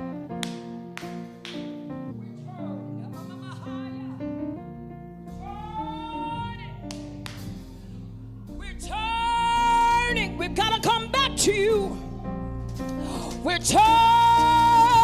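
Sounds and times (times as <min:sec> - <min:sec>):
slow worship music: 0:00.0 - 0:15.0.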